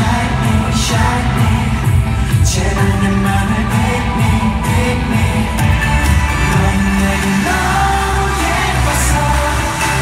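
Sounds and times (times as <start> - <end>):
pop song over sound system: 0.0 - 10.0.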